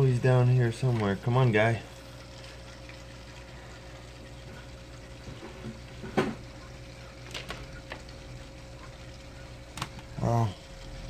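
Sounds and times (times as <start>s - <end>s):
aquarium water bubbling: 0.0s - 11.0s.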